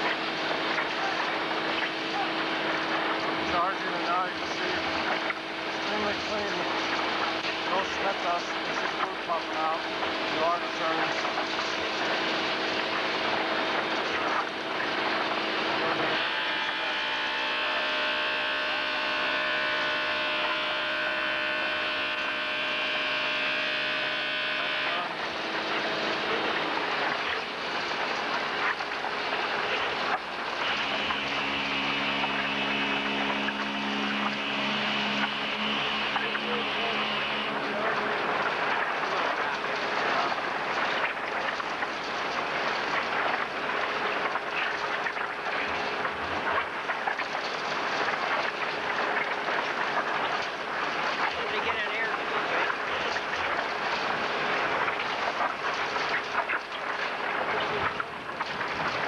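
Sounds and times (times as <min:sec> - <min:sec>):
concrete mixer hum with whine: 0:00.0 - 0:59.0.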